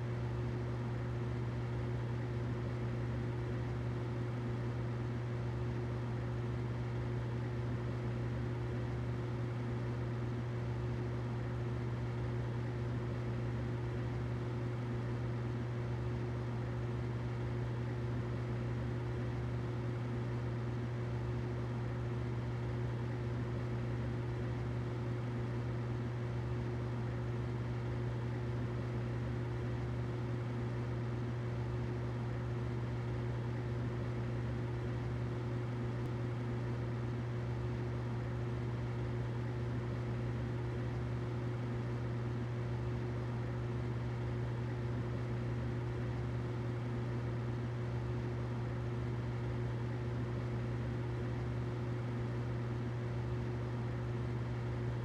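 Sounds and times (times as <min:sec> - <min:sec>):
humidifier humming and hissing: 0:00.0 - 0:55.0.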